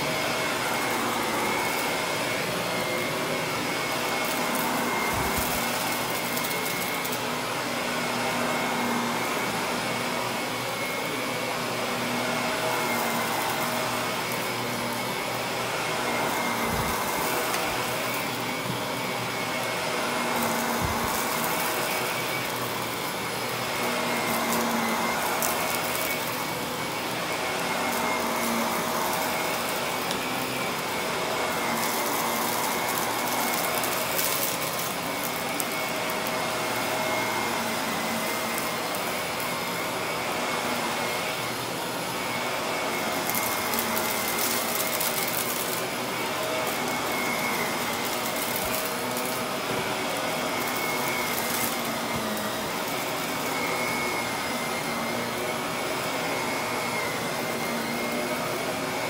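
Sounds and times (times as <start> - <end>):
vacuum cleaner on carpet: 0.0 - 59.0.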